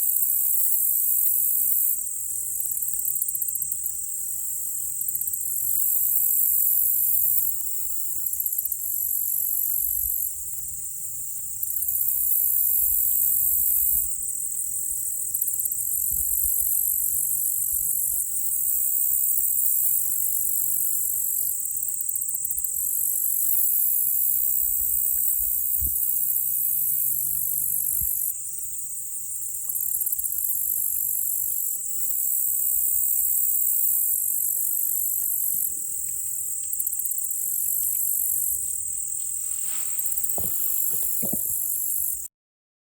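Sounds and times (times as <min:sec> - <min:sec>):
insects trilling: 0:00.0 - 0:42.3
steady shrill insect tone: 0:00.0 - 0:42.3.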